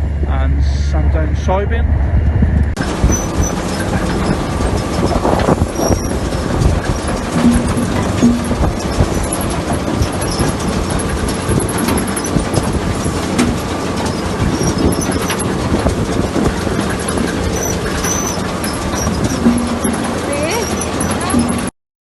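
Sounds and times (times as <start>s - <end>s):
harvest machinery rattling: 2.8s - 21.7s.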